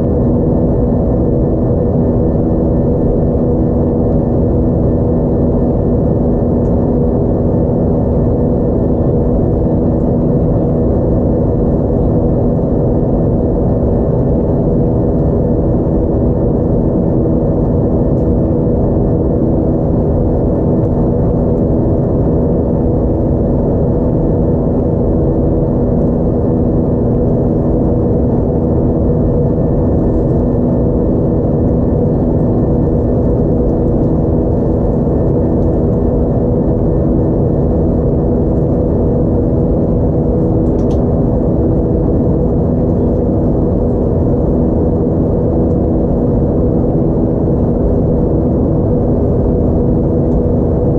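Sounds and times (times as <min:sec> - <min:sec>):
jet engines droning in cabin: 0:00.0 - 0:50.9.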